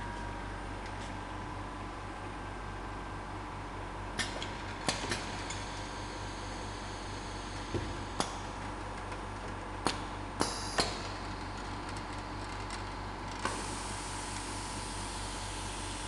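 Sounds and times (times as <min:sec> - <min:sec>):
conveyor belt humming: 0:00.0 - 0:16.0.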